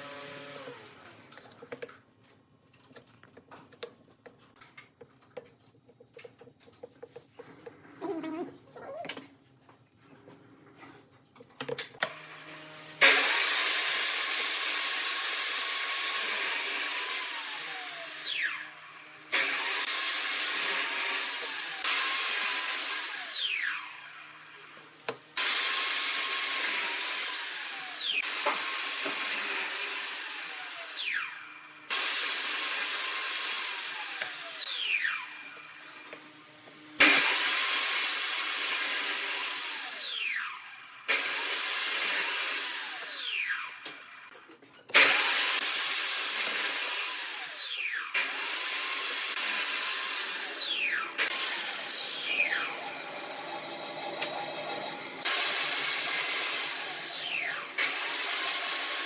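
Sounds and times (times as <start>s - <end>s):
power tool cutting wood: 0.0s - 1.3s, 12.0s - 59.0s.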